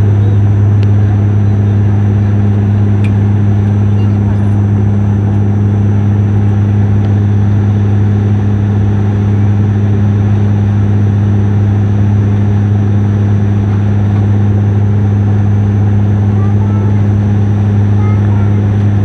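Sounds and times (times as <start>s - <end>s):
airliner engine drone: 0.0s - 19.0s.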